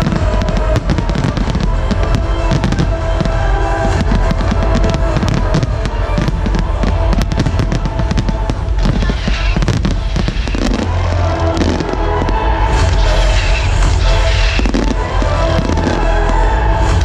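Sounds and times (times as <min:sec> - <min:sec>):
music playing: 0:00.0 - 0:17.0.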